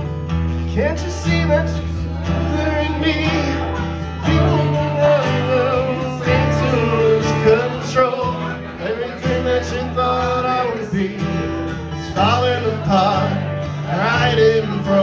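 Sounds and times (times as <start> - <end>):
strummed acoustic guitar: 0.0 - 15.0
man singing: 0.6 - 15.0.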